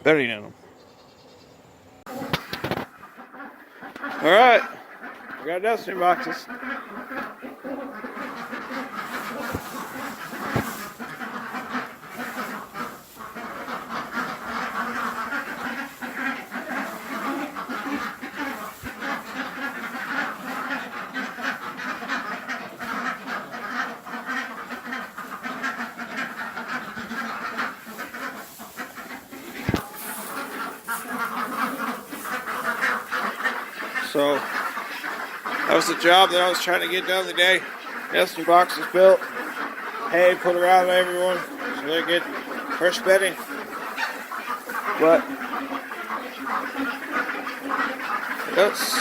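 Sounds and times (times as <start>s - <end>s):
ducks quacking: 0.0s - 49.0s.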